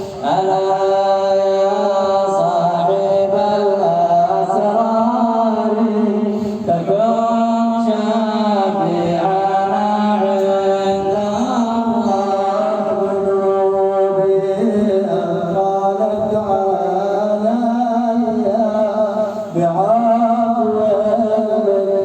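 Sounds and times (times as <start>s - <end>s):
man chanting religious song: 0.0s - 22.0s.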